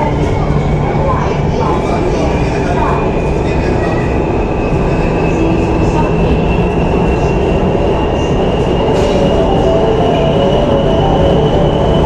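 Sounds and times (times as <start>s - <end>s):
electric train rumble and whine: 0.0s - 12.0s.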